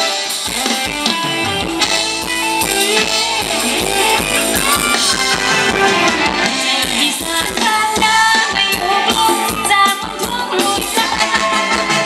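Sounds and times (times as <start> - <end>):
dance band with electric guitar: 0.0 - 12.0.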